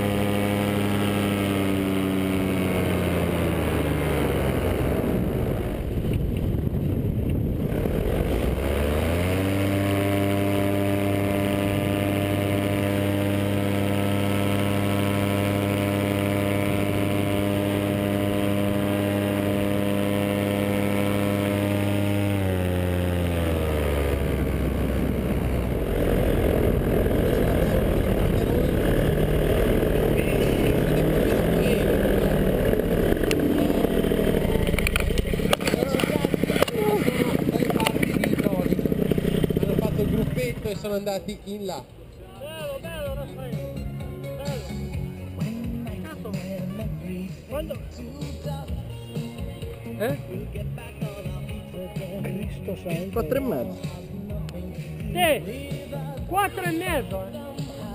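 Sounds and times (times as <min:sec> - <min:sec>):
paramotor engine droning: 0:00.0 - 0:42.2, 0:42.8 - 0:57.9.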